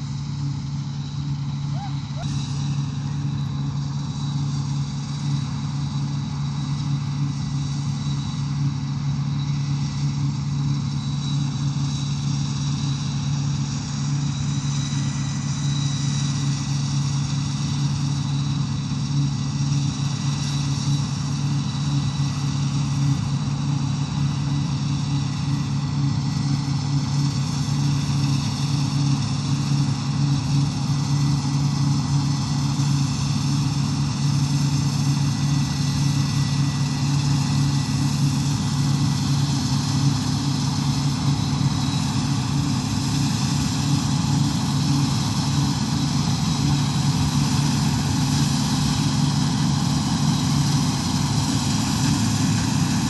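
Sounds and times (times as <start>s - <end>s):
engine drone: 0.0s - 53.0s.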